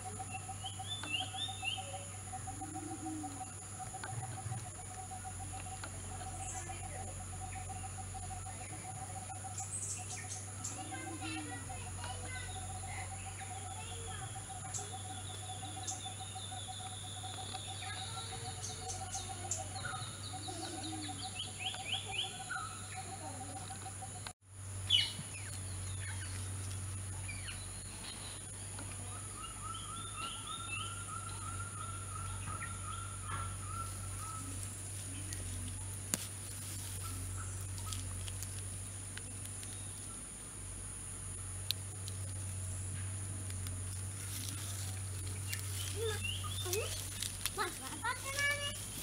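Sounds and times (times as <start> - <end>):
bird chirps: 0.0 - 36.0, 44.3 - 49.0.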